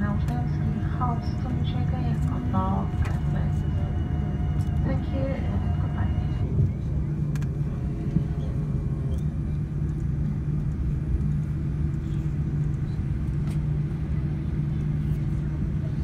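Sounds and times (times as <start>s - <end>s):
idling jet engines: 0.0s - 16.0s.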